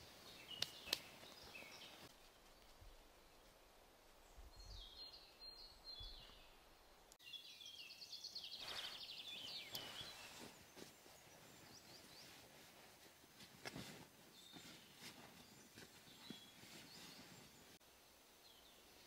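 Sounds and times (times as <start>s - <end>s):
songbirds singing: 0.0s - 3.5s, 4.2s - 12.6s, 14.3s - 17.8s.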